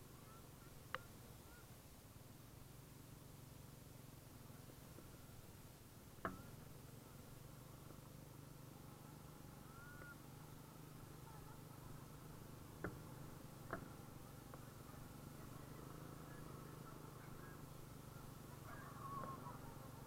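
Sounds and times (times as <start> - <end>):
faint motorbike engine hum: 0.0 - 20.0.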